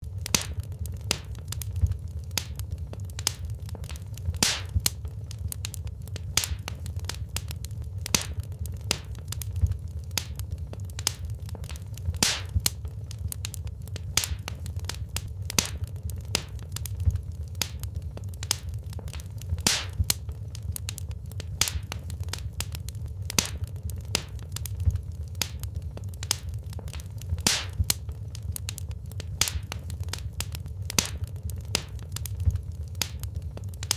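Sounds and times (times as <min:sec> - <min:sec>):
low rumble of flames: 0:00.0 - 0:33.9
wood fire crackling: 0:00.0 - 0:33.9.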